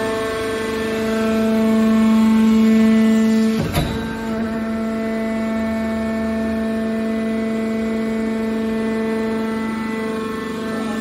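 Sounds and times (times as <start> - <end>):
hydraulic pump hum: 0.0 - 11.0.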